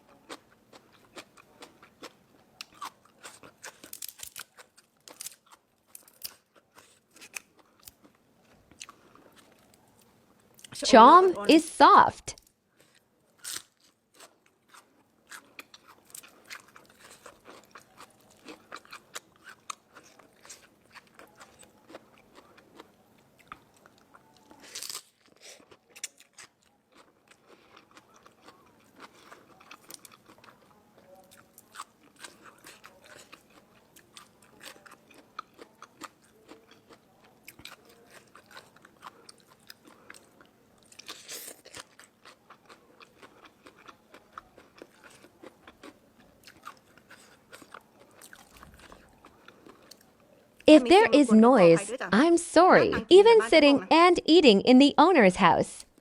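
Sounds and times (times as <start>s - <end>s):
person chewing crunchy food: 0.0s - 10.7s, 12.8s - 50.3s.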